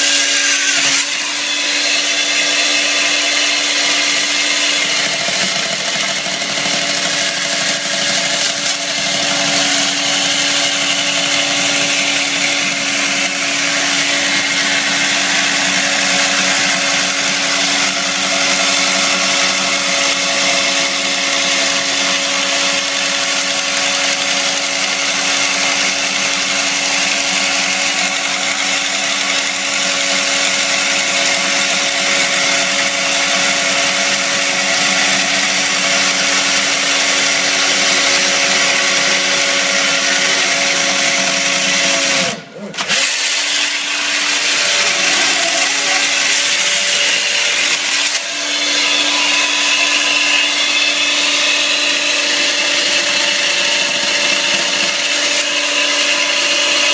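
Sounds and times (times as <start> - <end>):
chainsaw grinding stone: 0.0 - 56.9.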